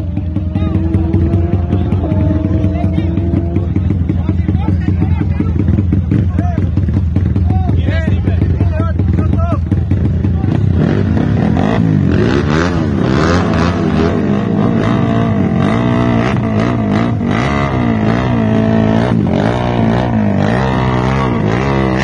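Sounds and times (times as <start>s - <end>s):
motorcycle revving hard: 0.0s - 22.0s.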